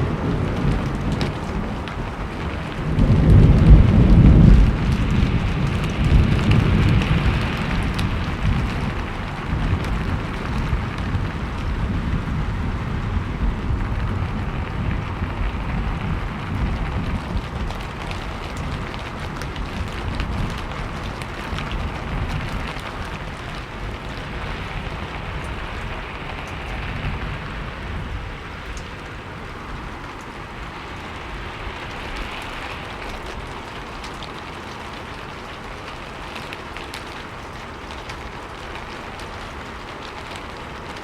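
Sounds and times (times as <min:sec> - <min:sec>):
rain pattering on surfaces: 0:00.0 - 0:41.0.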